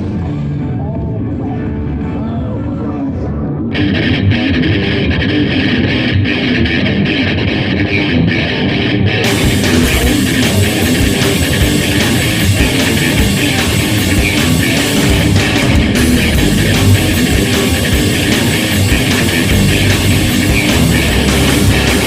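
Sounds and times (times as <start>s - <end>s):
rock song with electric guitar: 3.6s - 22.0s.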